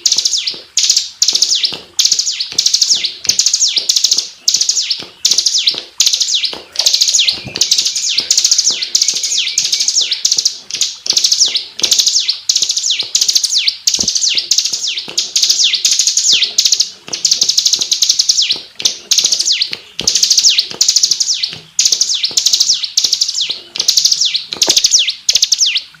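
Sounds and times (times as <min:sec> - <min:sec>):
bird singing a rapid trill: 0:00.0 - 0:26.0.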